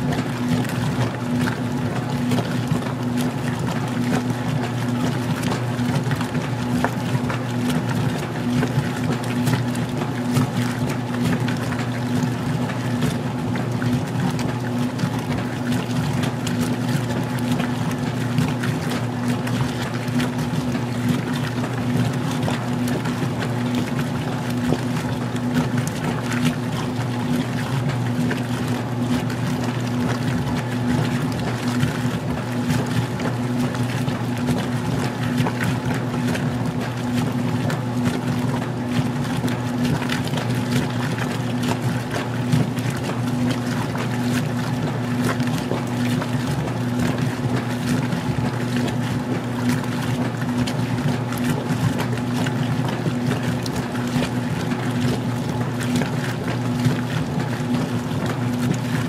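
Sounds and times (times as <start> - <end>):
washing machine motor hum: 0.0 - 59.0
water sloshing in tub: 0.0 - 59.0.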